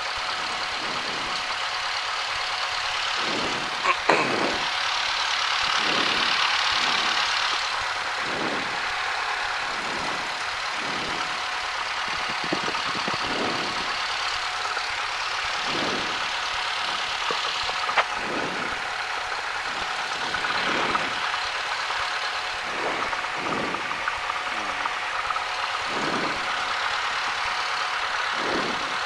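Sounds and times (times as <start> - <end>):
aircraft engine and propeller drone: 0.0 - 29.0.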